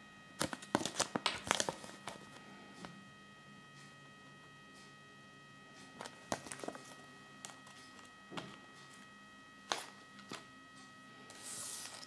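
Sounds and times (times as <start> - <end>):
faint electrical whine: 0.0 - 12.0.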